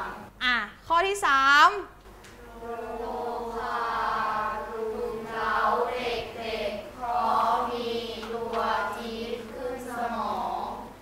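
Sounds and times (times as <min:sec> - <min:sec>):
students reading aloud in unison: 0:00.0 - 0:00.4, 0:02.1 - 0:11.0.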